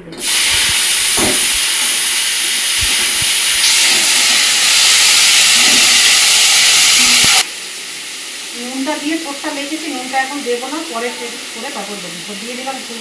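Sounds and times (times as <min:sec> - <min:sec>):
food sizzling in hot oil: 0:00.2 - 0:13.0.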